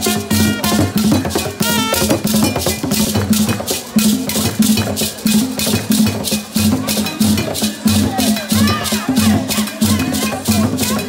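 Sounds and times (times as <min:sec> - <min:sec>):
crisp percussion strokes: 0:00.0 - 0:11.0.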